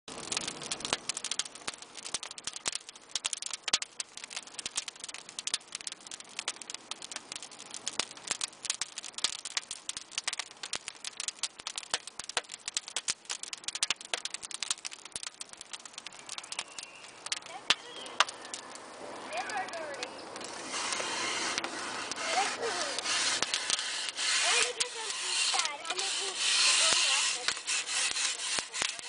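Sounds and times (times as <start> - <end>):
wood fire crackling: 0.1 - 29.0.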